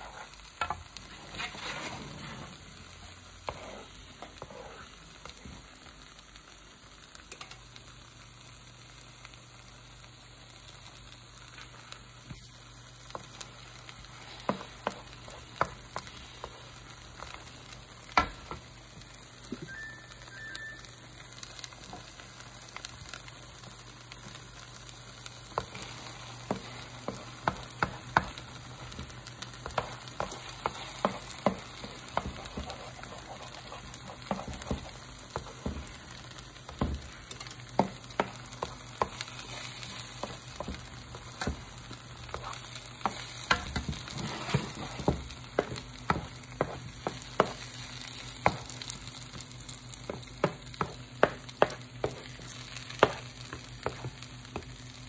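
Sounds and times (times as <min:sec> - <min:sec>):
eggs sizzling in frying pan: 0:00.0 - 0:55.0.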